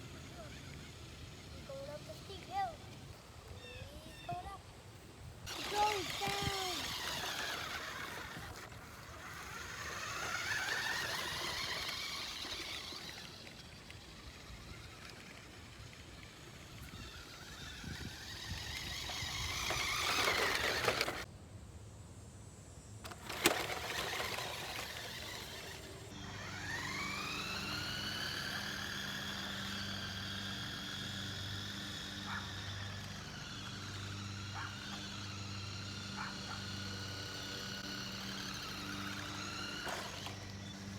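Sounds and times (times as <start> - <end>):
toy car electric motor whining: 0.0 - 4.7, 5.4 - 21.3, 23.0 - 40.9.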